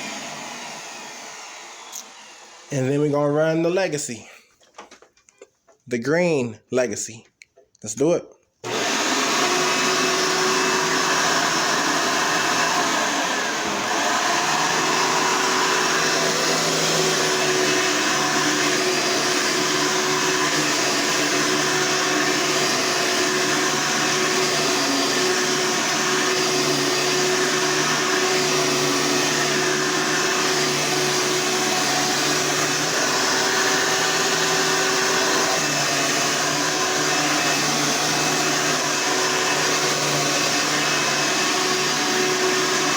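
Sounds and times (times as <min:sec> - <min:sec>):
vacuum cleaner running: 0:00.0 - 0:04.0, 0:08.6 - 0:42.9.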